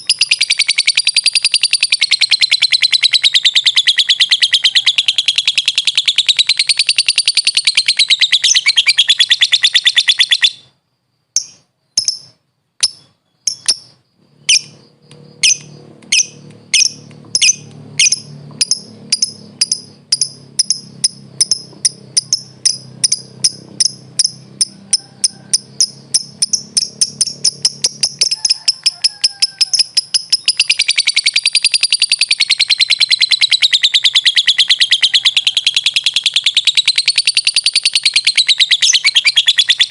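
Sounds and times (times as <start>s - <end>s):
bird chattering trill: 0.0s - 10.8s, 11.4s - 39.9s.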